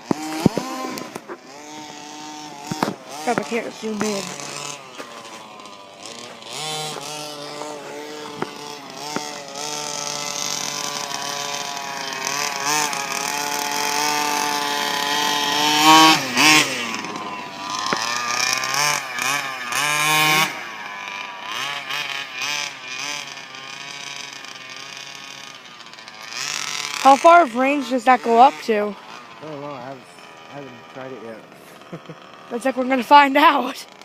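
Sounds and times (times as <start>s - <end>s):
small two-stroke engine revving: 0.0s - 34.0s.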